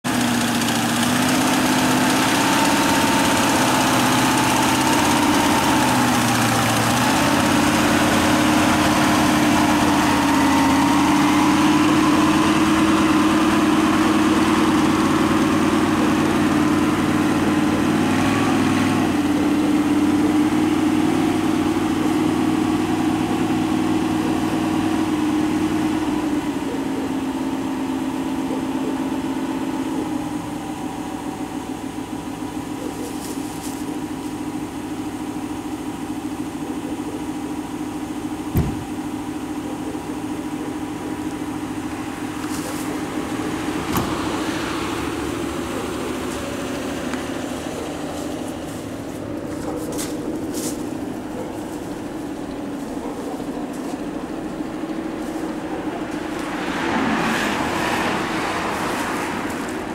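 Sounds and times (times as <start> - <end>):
car engine running at low revs: 0.0 - 59.9.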